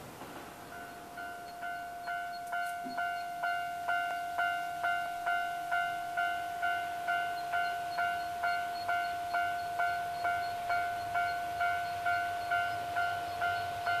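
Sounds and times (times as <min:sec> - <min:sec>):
level crossing warning bell: 0:00.0 - 0:14.0
train rumble: 0:00.0 - 0:14.0.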